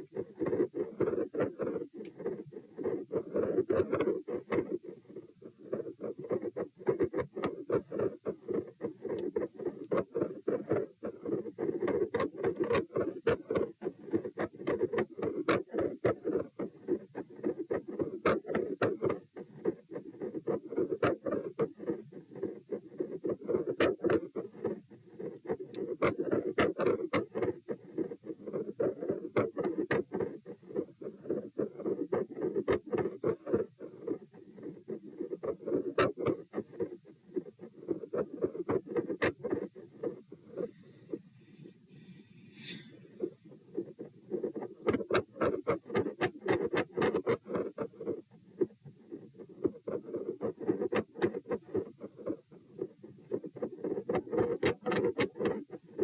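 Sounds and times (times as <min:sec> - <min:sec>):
fast heartbeat through stethoscope: 0:00.0 - 0:41.2, 0:43.0 - 0:56.0
stethoscope clicks and scratches: 0:00.0 - 0:56.0.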